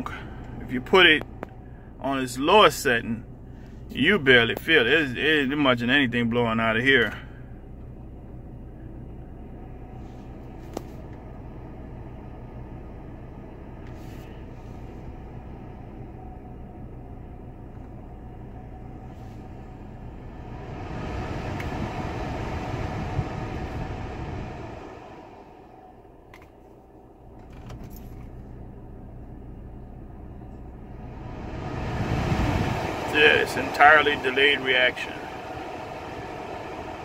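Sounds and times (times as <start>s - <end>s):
air rushing from vents: 0.0s - 5.6s, 7.1s - 37.0s
car engine idling: 0.0s - 37.0s.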